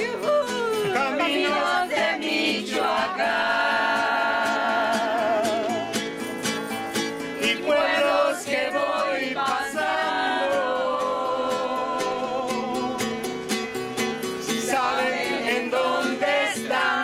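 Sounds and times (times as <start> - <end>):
strummed acoustic guitar: 0.0 - 17.0
group singing in unison: 0.8 - 6.1, 7.4 - 13.3, 14.4 - 17.0.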